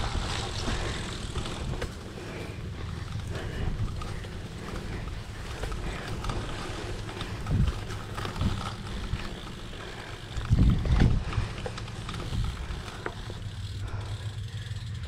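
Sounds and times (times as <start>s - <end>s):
wind rumbling on microphone: 0.0s - 14.0s
low bumps: 0.0s - 14.6s.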